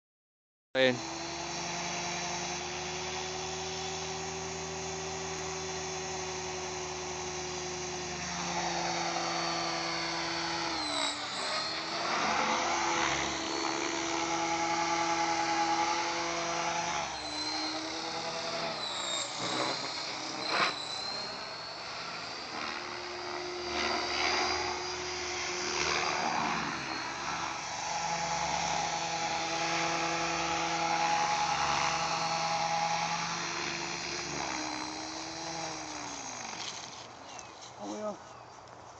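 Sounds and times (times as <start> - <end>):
rc helicopter motor whining: 0.8 - 38.9.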